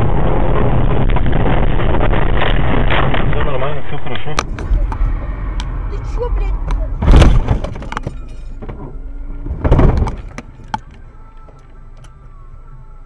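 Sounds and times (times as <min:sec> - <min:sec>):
vehicle crashing: 0:00.0 - 0:11.7.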